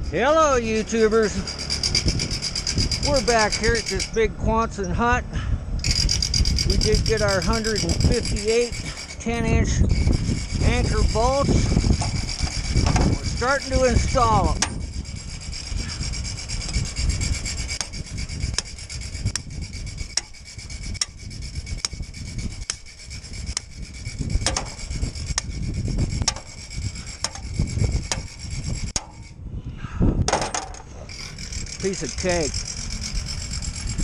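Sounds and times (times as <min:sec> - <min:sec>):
hammer drill boring concrete: 0:00.0 - 0:04.3, 0:05.8 - 0:29.4, 0:31.1 - 0:34.0
wind buffeting microphone: 0:00.0 - 0:34.0.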